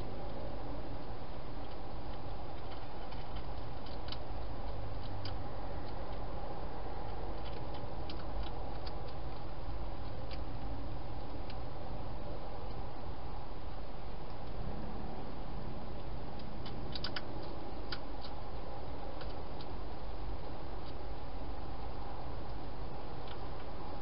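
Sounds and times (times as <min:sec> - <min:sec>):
steady hiss: 0:00.0 - 0:24.0
hedgehog crunching food: 0:00.1 - 0:24.0.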